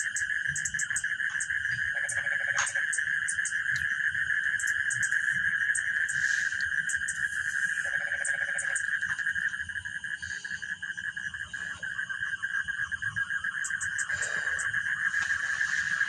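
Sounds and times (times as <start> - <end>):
insects trilling: 0.0 - 16.0
low buzzy insect call: 0.0 - 16.0.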